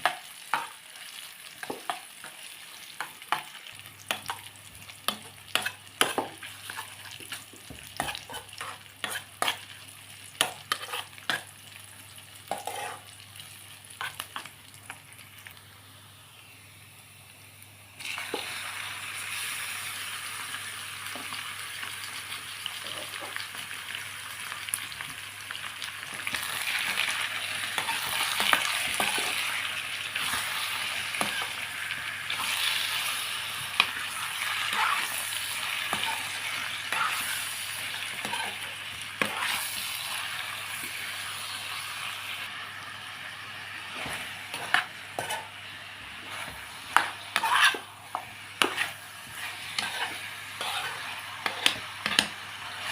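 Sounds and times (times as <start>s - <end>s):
food sizzling in oil: 0.0s - 52.9s.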